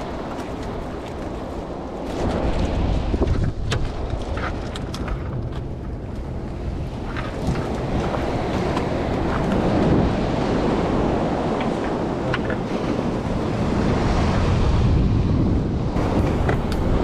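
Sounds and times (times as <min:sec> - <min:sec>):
sea water washing: 0:00.0 - 0:17.0
wind buffeting microphone: 0:00.0 - 0:17.0.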